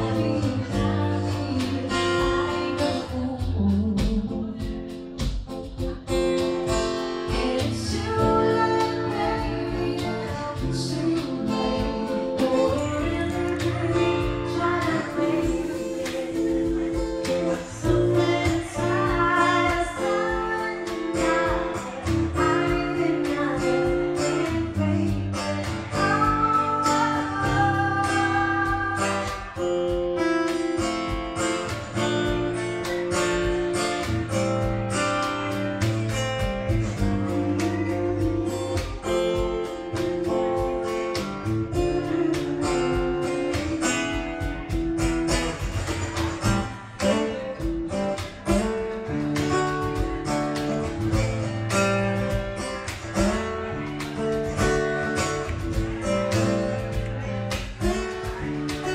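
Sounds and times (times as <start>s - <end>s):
acoustic guitar: 0.0s - 58.9s
cajon beat: 0.0s - 58.9s
woman singing: 0.0s - 58.9s.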